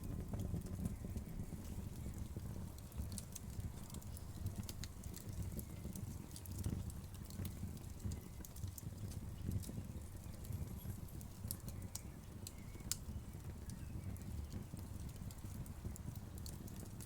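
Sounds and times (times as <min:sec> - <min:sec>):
fire popping and snapping: 0:00.0 - 0:17.0
low rumble of flames: 0:00.0 - 0:17.0.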